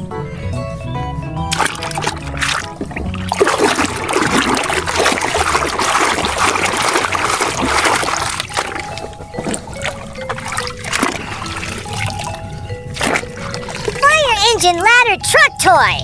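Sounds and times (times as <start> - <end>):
background music: 0.0 - 16.0
water splashing and trickling: 1.5 - 16.0.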